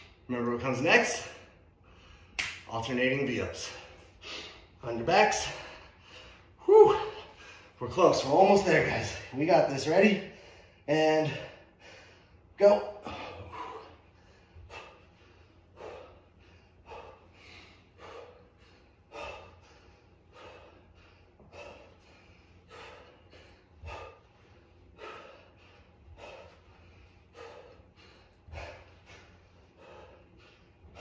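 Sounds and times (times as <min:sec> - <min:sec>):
man breathing hard: 0:00.9 - 0:02.4, 0:03.3 - 0:31.0.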